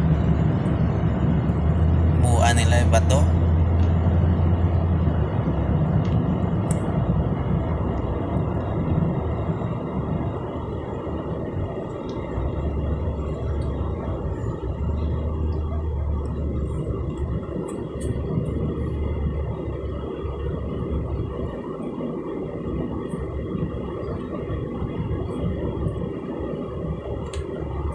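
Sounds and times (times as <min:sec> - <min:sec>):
car road and engine noise: 0:00.0 - 0:27.9.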